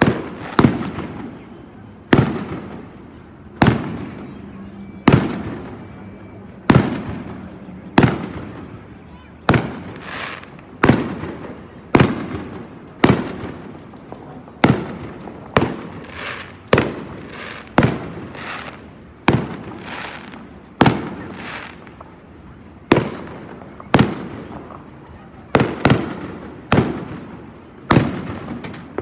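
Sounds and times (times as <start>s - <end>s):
crackling hiss of fireworks: 0.0s - 29.0s
fireworks bangs echoing: 0.0s - 29.0s.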